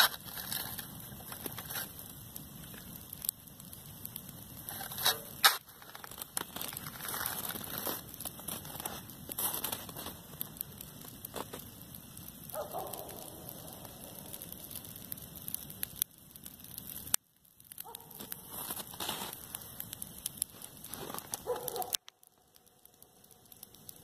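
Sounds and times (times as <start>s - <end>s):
grass fire crackling: 0.0s - 24.0s.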